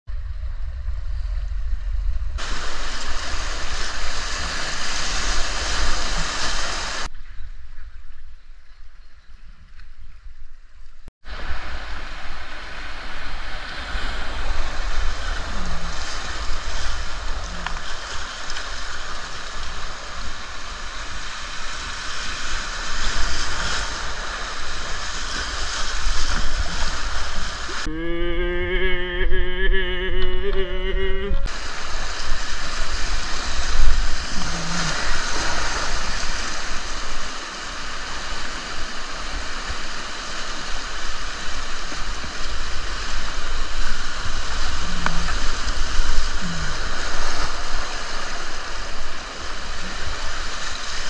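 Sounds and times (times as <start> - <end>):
wind rumble on microphone: 0.1 - 51.0
river water rushing: 2.4 - 7.1, 11.2 - 51.0.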